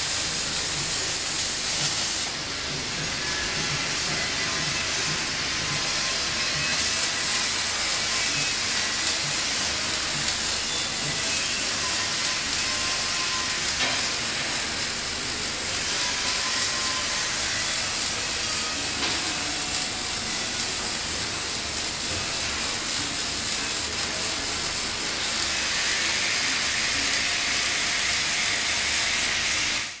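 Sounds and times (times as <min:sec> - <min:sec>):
welding arc crackling and hissing: 0:00.0 - 0:30.0.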